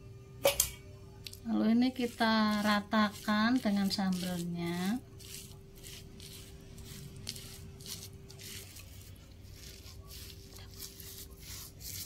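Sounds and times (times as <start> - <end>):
stone pestle scraping and crunching: 1.8 - 12.0.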